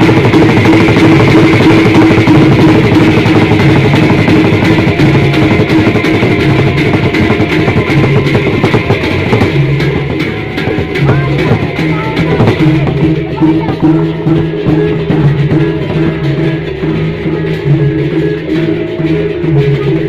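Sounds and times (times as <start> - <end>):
hand drums beating fast rhythm: 0.0 - 20.0
held low notes: 0.0 - 20.0.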